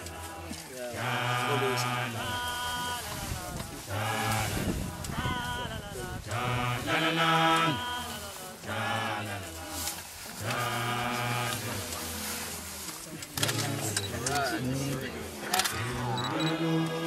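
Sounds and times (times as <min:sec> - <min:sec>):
chanted group singing: 0:00.0 - 0:17.0.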